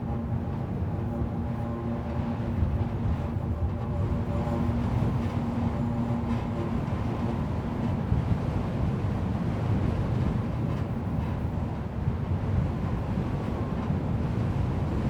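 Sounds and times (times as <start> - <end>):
low rumble of wind: 0.0 - 15.0
wires humming in wind: 0.0 - 15.0.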